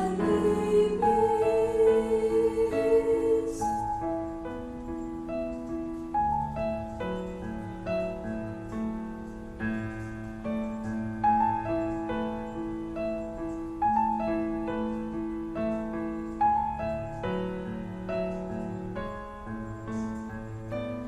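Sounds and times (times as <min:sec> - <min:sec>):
piano playing slow melody: 0:00.0 - 0:21.0.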